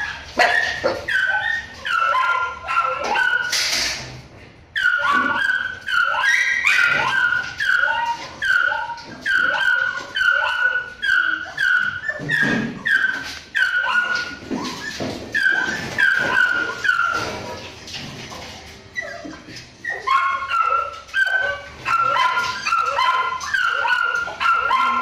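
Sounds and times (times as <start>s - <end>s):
dogs barking and yelping: 0.0s - 25.0s.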